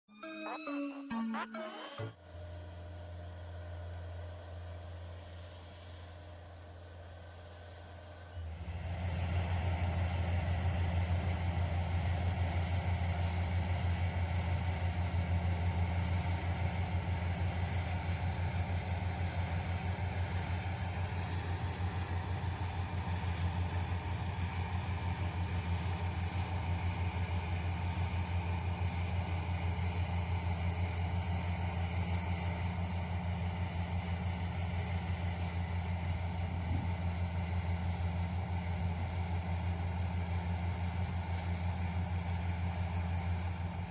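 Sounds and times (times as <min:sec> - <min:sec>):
diesel engine running: 0:00.3 - 0:43.9.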